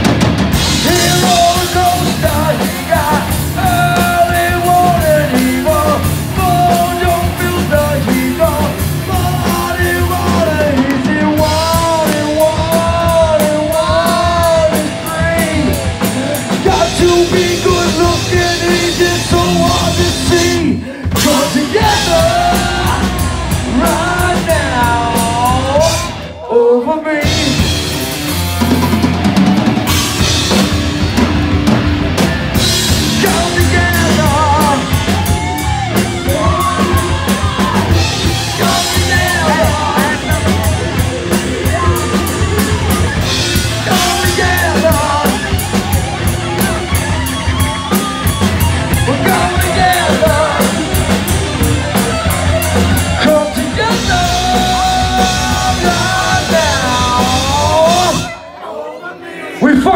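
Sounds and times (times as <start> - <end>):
drum kit: 0.0 - 26.4, 27.1 - 58.4
electric guitar: 0.0 - 26.6, 27.2 - 58.4
person singing: 0.7 - 28.0, 32.8 - 59.9.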